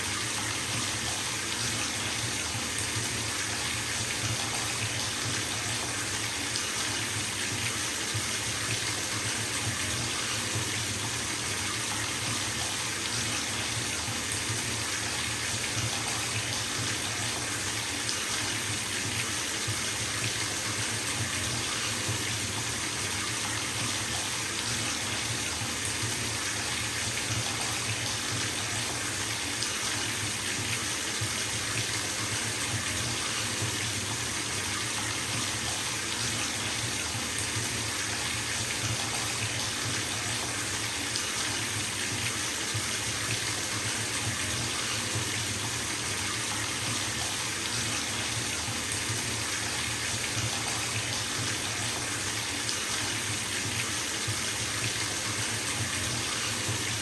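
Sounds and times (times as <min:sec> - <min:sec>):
water splashing into bathtub: 0:00.1 - 0:57.0.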